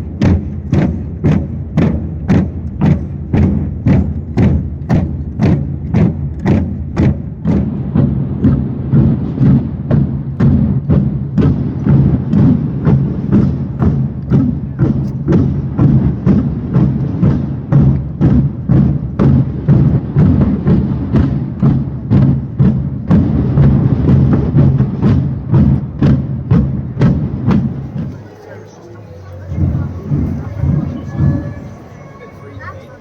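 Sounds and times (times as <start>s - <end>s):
low drum ring: 0.0s - 33.0s
marching drums slow beat: 0.0s - 33.0s.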